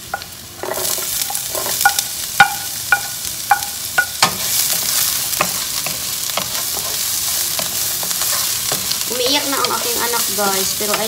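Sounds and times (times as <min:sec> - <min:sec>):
onions sizzling in frying pan: 0:00.0 - 0:11.0.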